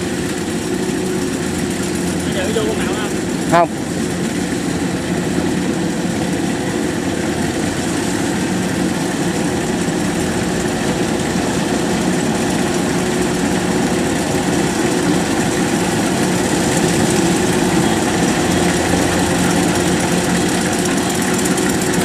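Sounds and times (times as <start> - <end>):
combine harvester humming: 0.0 - 22.0.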